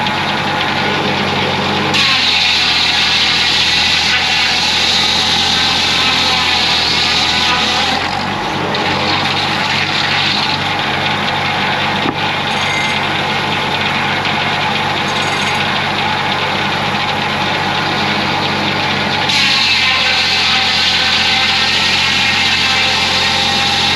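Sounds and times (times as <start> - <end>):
bandsaw sawmill running: 0.0 - 23.9.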